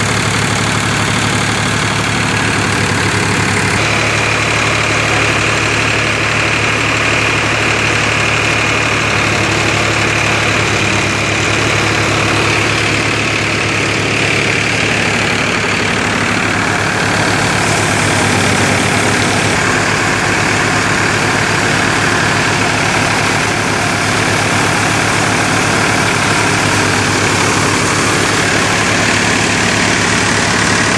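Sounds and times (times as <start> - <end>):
thresher mechanical whir: 0.0 - 30.9
tractor diesel engine running: 0.0 - 30.9.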